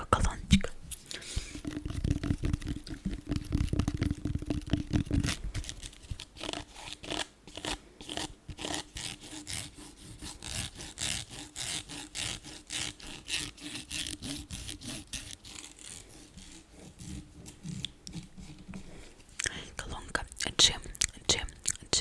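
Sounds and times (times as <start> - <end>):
fast scratching on surface: 1.3 - 19.3.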